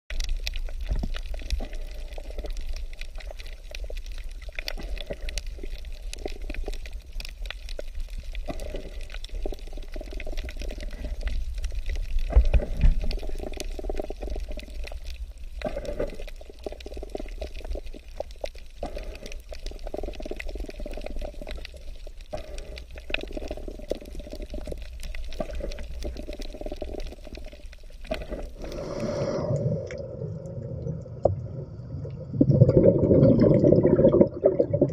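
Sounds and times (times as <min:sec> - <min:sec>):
low underwater rumble: 0:00.1 - 0:34.9.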